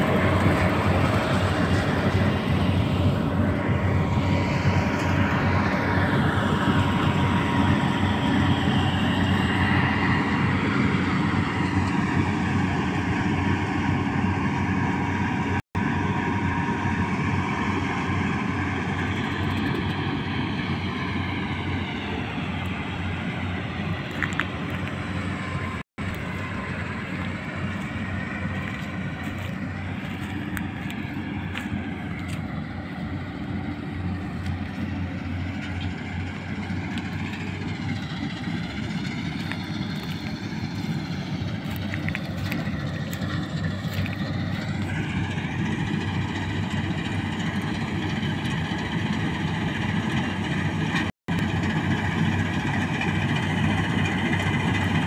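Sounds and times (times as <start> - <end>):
combine harvester machinery drone: 0.0 - 55.0.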